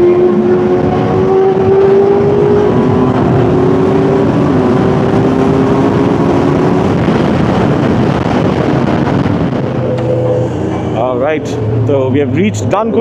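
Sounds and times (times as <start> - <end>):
motorcycle engine running: 0.0 - 11.9
wind noise: 0.0 - 11.9.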